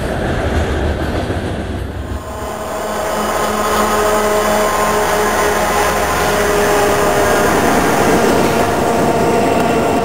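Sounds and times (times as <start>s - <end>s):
freight train rumbling by: 0.0s - 10.0s
held train tones: 0.0s - 10.0s.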